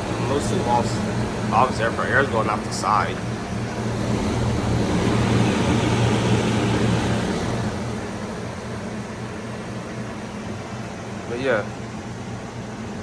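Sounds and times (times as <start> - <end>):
heat pump fan humming: 0.0 - 13.0.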